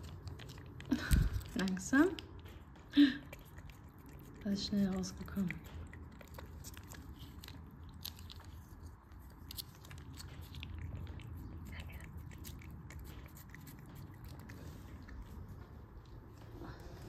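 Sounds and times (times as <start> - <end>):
cat licking: 0.0 - 17.0
low steady hum: 0.0 - 17.0.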